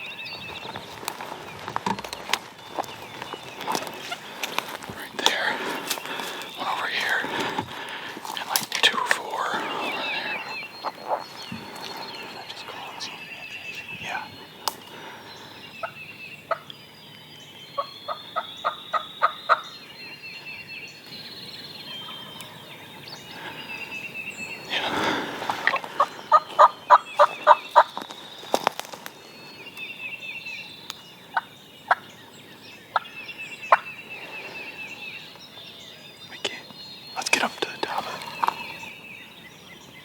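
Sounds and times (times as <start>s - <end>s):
songbirds chirping faintly: 0.0s - 40.0s.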